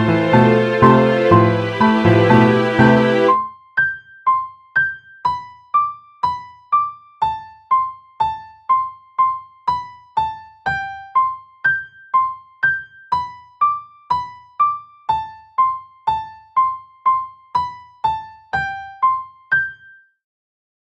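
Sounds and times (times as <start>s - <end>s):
electric piano ringtone melody: 0.0s - 6.9s, 7.8s - 20.0s.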